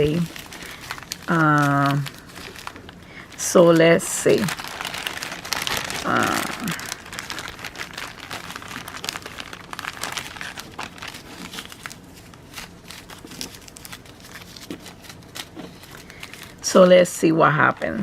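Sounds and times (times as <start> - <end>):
packaging crinkling: 0.0 - 16.7.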